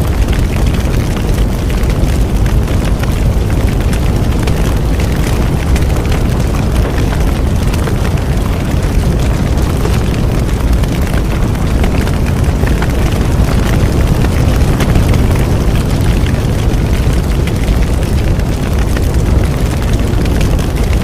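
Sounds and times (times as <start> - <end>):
bonfire flames rumbling: 0.0 - 21.0
burning wood crackling and popping: 0.0 - 21.0.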